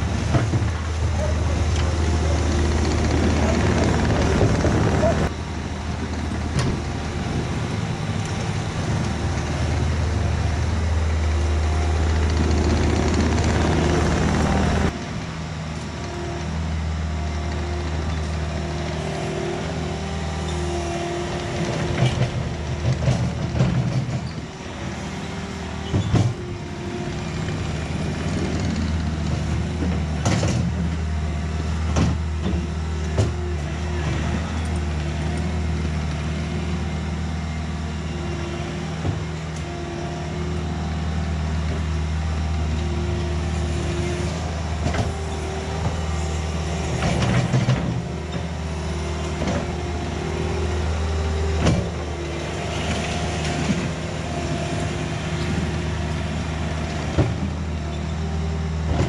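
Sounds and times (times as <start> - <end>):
loader diesel engine running: 0.0 - 59.0.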